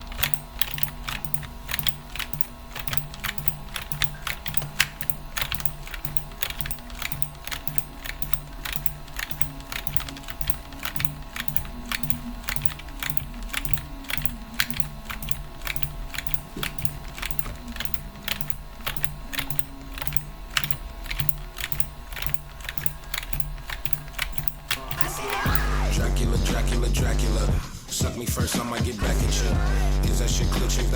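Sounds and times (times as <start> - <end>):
rapid irregular clicking: 0.0 - 25.8.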